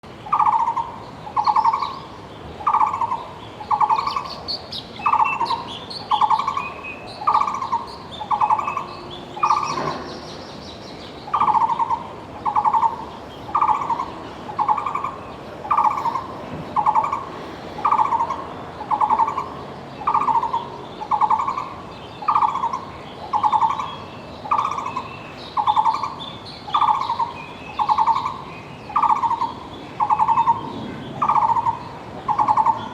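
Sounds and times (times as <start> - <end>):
small birds chirping faintly: 0.0 - 32.9
barbet singing monotonous song: 0.2 - 10.4, 11.2 - 32.9.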